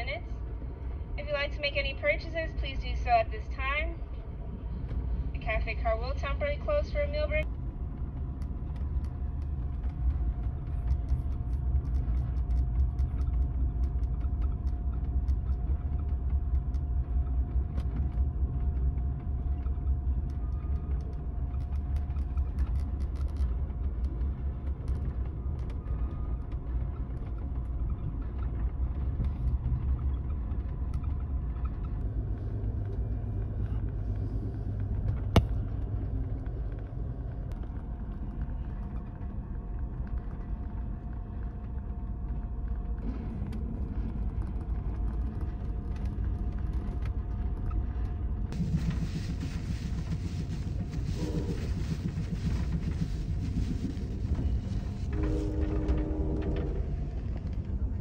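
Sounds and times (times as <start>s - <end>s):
faint steady hum: 0.0s - 58.0s
train car rumbling on rails: 0.0s - 58.0s
small clicks and creaks: 7.4s - 58.0s.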